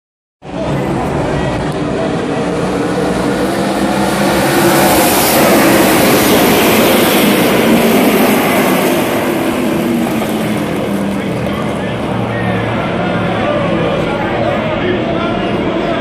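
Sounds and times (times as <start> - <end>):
race car engines roaring: 0.4 - 16.0.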